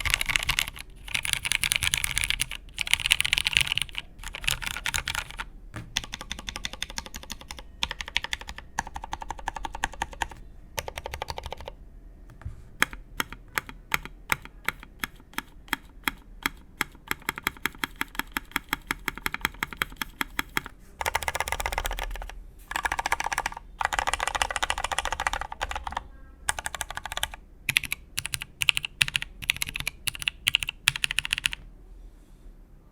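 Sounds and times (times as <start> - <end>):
mechanical keyboard typing: 0.0 - 11.8, 12.8 - 31.6.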